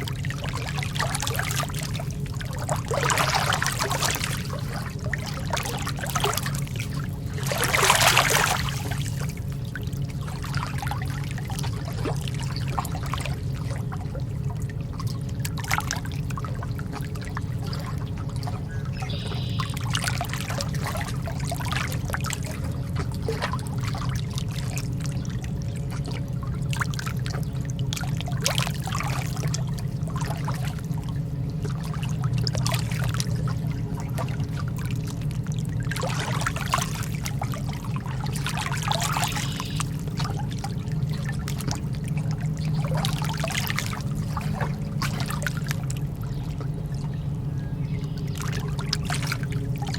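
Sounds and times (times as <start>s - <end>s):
steady low rumble: 0.0s - 49.9s
water lapping at shore: 0.0s - 49.9s.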